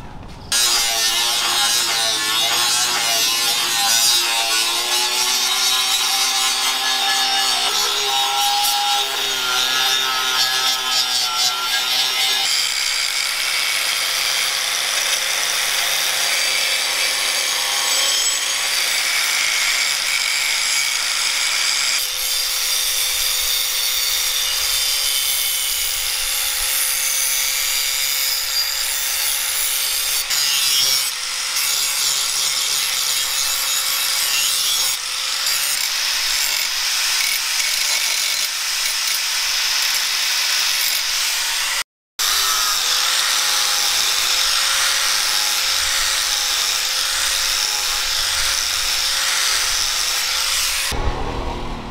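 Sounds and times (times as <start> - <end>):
angle grinder grinding steel: 0.5 - 51.0.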